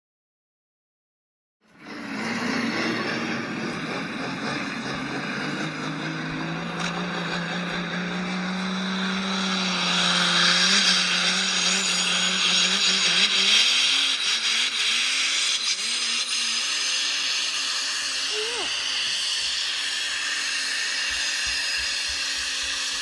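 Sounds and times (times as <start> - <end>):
toy electric motor whining: 1.7 - 23.0.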